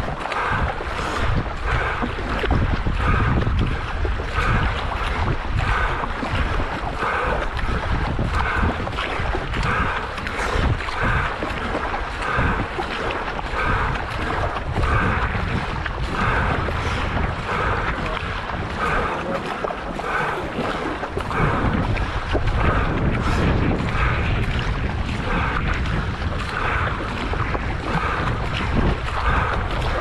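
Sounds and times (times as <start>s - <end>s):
paddle blades splashing water: 0.0s - 30.0s
wind rumbling on microphone: 0.0s - 30.0s.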